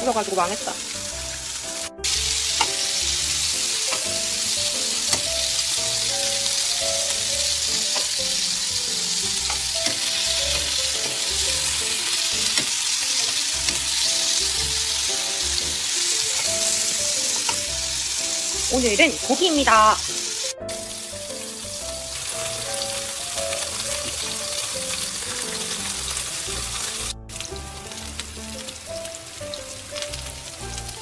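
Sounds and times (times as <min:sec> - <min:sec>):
pork sizzling in a pan: 0:00.0 - 0:31.0.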